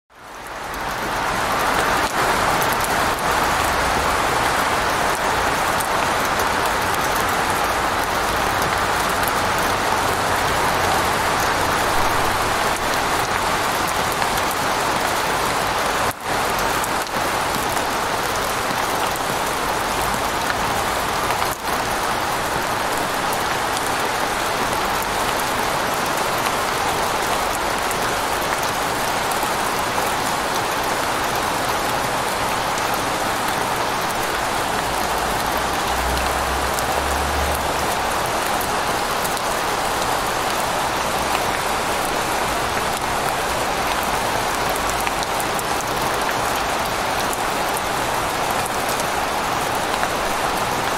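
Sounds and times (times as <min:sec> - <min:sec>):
rain on vehicle: 0:00.1 - 0:50.9.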